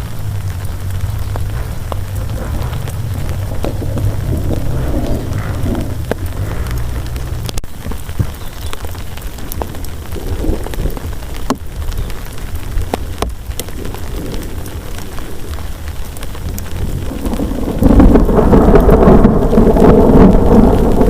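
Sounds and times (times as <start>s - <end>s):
heavy rain falling: 0.0s - 21.0s
low continuous rumble: 0.0s - 21.0s
raindrops striking a surface: 0.0s - 21.0s.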